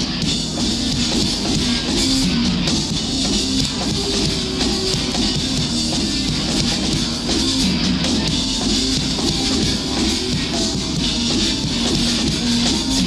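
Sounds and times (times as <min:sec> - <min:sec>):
drum kit: 0:00.0 - 0:13.0
electric guitars: 0:00.0 - 0:13.0.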